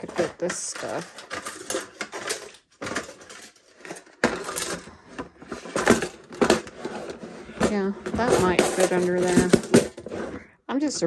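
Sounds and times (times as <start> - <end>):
objects clicking and knocking: 0.0 - 10.4
rustling: 0.0 - 10.4.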